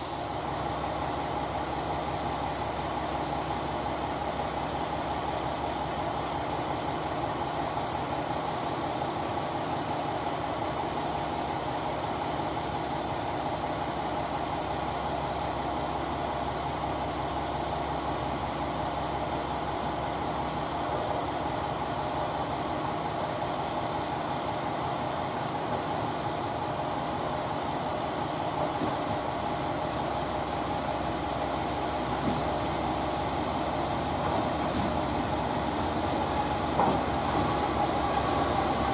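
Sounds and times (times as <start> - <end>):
train idling hum: 0.0 - 38.9.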